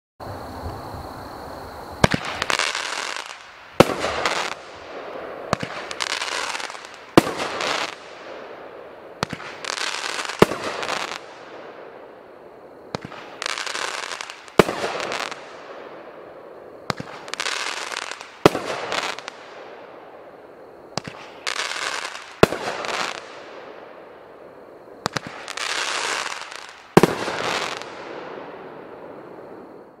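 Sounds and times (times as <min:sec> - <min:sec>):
firework shots with crackling bursts: 0:02.0 - 0:30.0.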